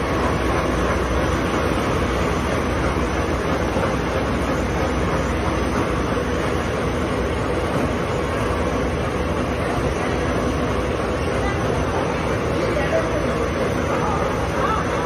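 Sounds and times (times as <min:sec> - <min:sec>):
folding machine running: 0:00.0 - 0:15.0.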